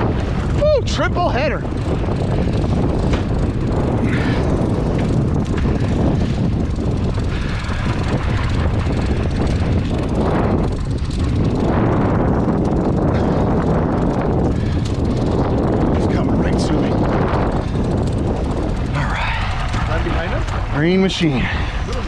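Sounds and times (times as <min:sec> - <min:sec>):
outboard motor running: 0:00.0 - 0:22.0
wind: 0:00.0 - 0:22.0.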